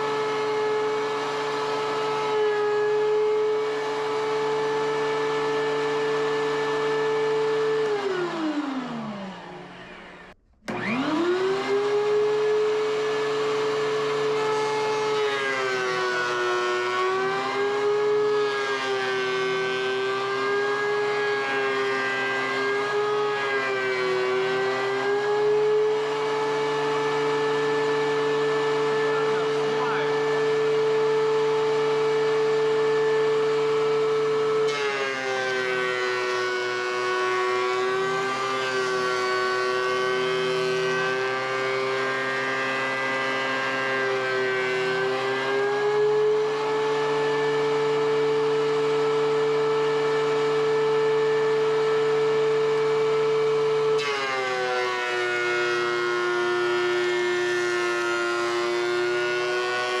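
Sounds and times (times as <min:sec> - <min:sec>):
thickness planer whining: 0:00.0 - 1:00.0.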